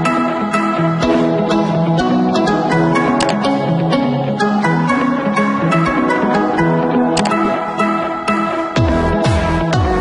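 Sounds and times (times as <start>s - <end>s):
melody over light beat: 0.0s - 10.0s.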